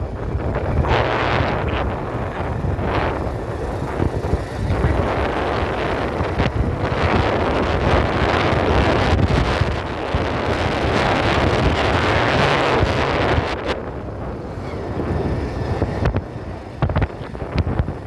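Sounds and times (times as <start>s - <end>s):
steady low rumble: 0.0s - 18.0s
strong wind buffeting microphone: 0.0s - 18.0s.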